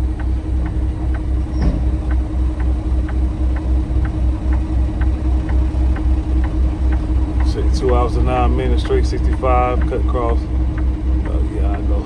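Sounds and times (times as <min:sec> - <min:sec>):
diesel truck engine idling: 0:00.0 - 0:12.0
light regular ticking: 0:00.0 - 0:12.0.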